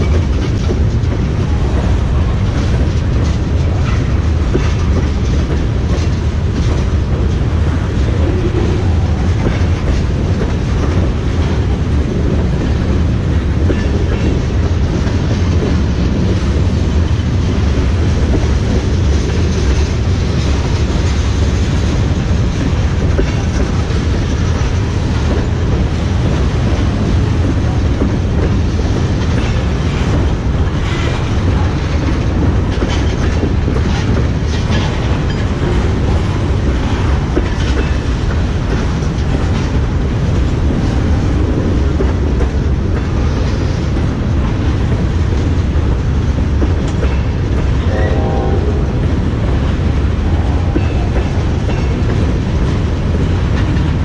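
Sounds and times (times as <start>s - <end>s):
freight train rumbling past: 0.0s - 54.0s
wheels clacking over rail joints: 0.0s - 54.0s.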